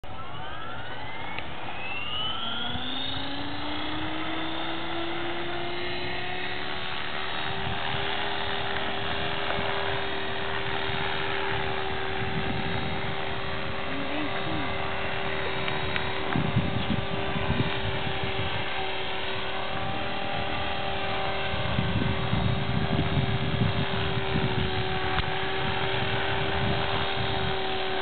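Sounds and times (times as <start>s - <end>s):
model helicopter rotor whining: 0.0s - 28.0s.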